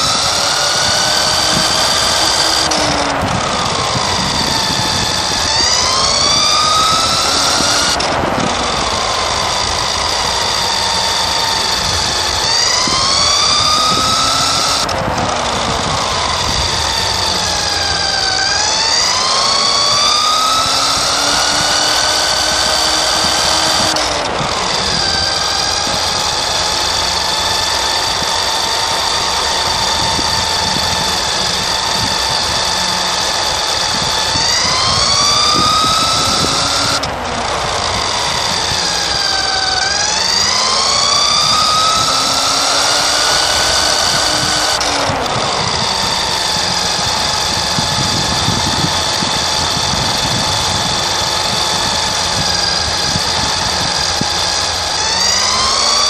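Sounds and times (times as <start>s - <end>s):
rc car motor whining: 0.0s - 56.0s
tyre and road noise: 0.0s - 56.0s.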